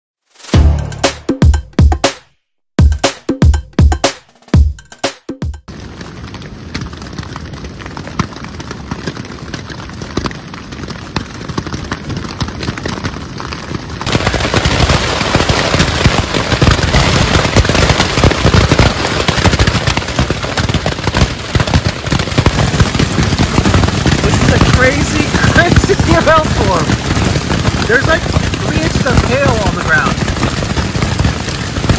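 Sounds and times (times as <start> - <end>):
hail pelting a nylon tarp: 5.7 - 31.9
hail rattling on ground and tents: 5.7 - 31.9.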